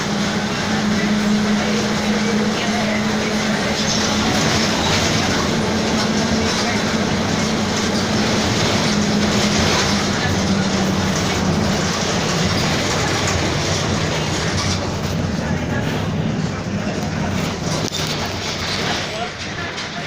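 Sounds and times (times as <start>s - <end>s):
bus engine running: 0.0s - 20.0s
road noise: 0.0s - 20.0s.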